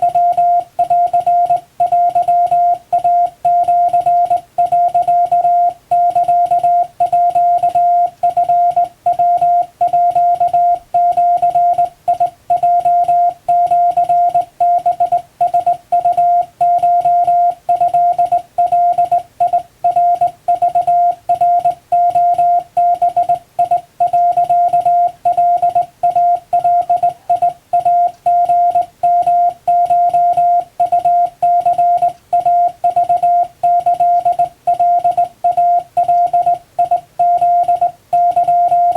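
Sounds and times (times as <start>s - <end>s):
morse code beeping: 0.0s - 38.9s.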